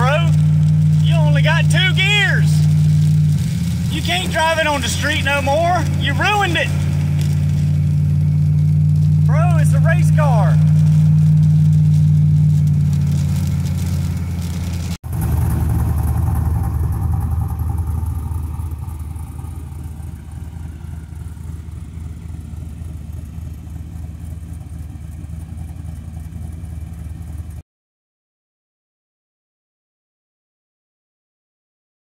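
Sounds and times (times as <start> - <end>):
engine drone inside car cabin: 0.0 - 27.6
engine idling with uneven pulse: 0.0 - 27.6.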